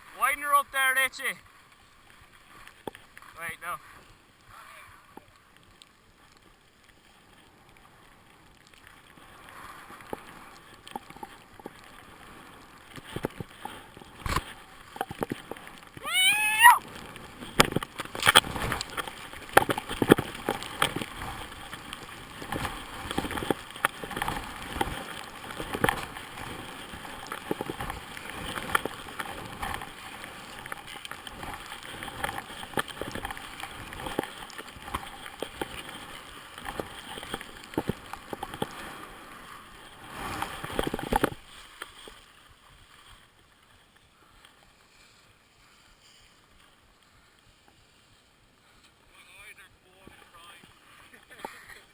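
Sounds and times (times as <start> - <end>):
skis scraping over snow: 0.0 - 51.9.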